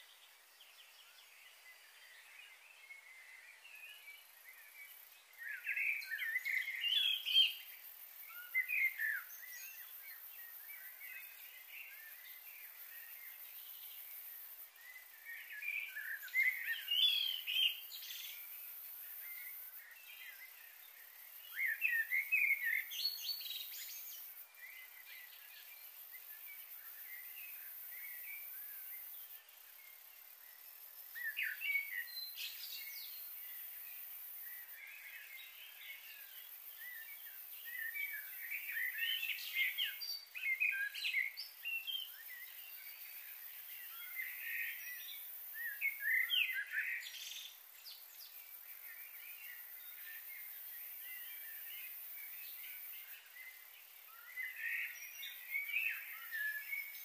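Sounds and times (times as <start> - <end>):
steady faint hiss: 0.0 - 57.0.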